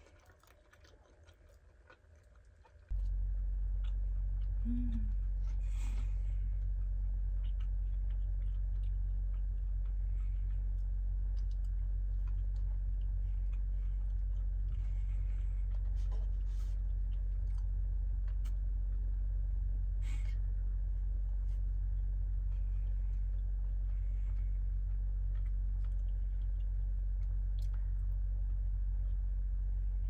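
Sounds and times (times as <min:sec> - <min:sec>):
soft chewing: 0:00.0 - 0:30.0
steady low rumble: 0:02.8 - 0:30.0.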